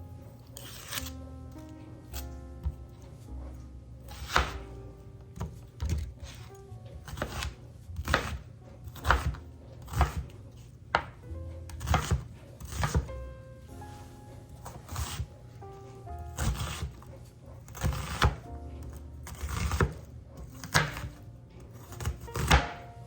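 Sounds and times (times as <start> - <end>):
background music: 0.0 - 23.0
knife chopping on cutting board: 0.3 - 13.2, 14.6 - 22.9.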